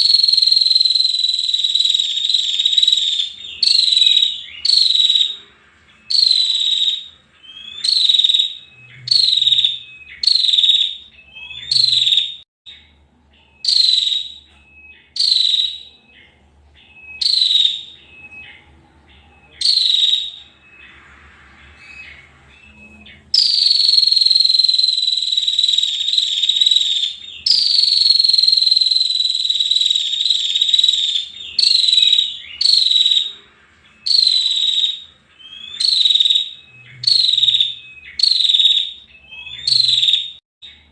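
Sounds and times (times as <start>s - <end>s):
bird buzzy calls: 0.0s - 40.9s
bird buzzy trills: 0.0s - 40.9s.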